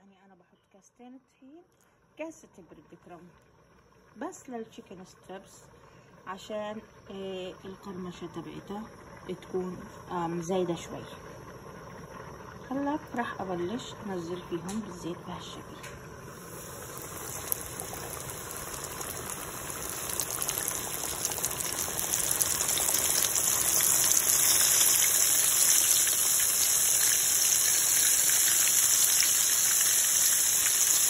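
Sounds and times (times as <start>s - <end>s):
chicken deep-frying in hot oil: 2.3s - 31.0s.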